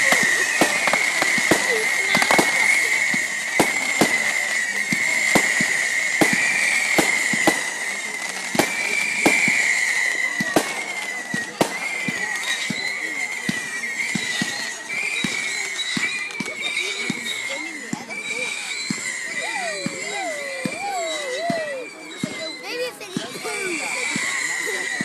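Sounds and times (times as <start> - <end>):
fireworks bangs and crackles: 0.0 - 25.0
high wavering whistle: 0.0 - 25.0.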